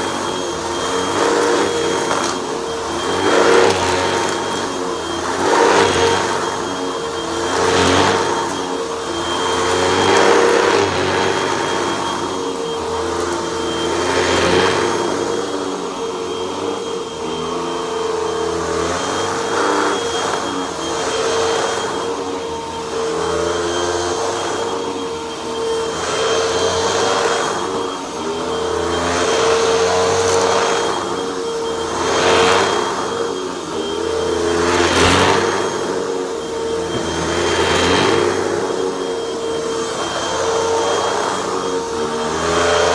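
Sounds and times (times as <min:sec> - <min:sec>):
vacuum cleaner on carpet: 0:00.0 - 0:42.9.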